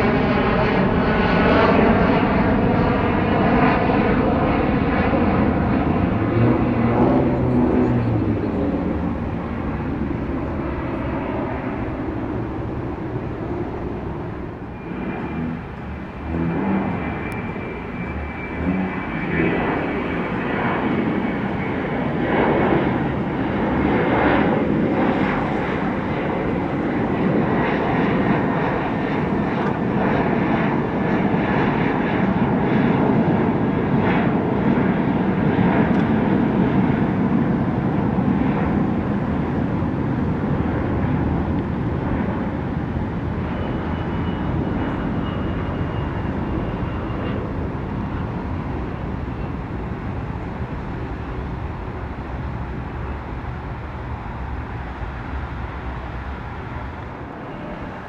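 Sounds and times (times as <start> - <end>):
jet engines at takeoff power: 0.0 - 58.0
thin engine whine: 0.0 - 58.0.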